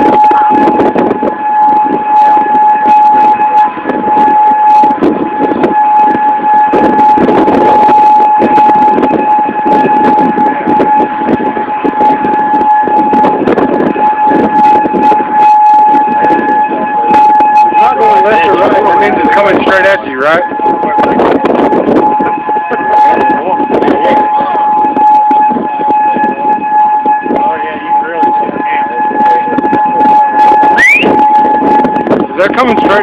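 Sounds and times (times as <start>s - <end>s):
warning siren steady tone: 0.0s - 33.0s.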